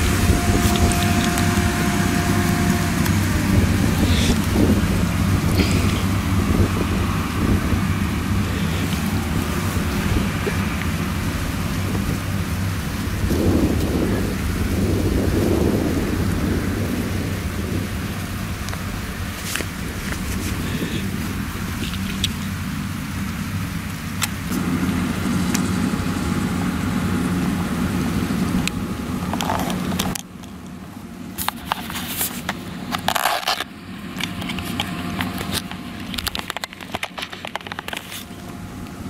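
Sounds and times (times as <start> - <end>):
dry crackling and snapping: 0.0 - 25.8, 28.6 - 39.0
combine harvester engine hum: 0.0 - 39.0.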